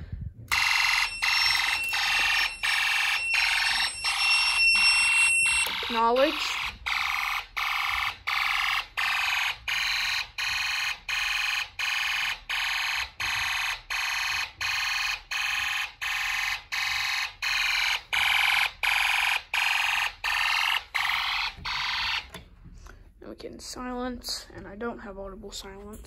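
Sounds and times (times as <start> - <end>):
electronic fire alarm beeps: 0.5 - 22.4.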